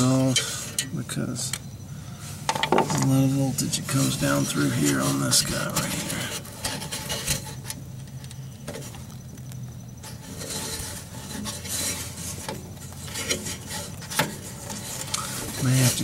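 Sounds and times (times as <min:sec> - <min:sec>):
faint low hum: 0:00.0 - 0:16.0
fingers rubbing on rubber and metal: 0:02.6 - 0:16.0.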